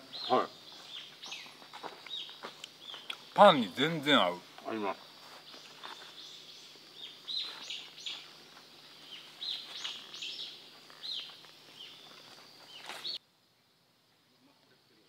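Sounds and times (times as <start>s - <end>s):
small birds chirping: 0.0s - 13.2s
faint outdoor hiss: 0.0s - 15.0s.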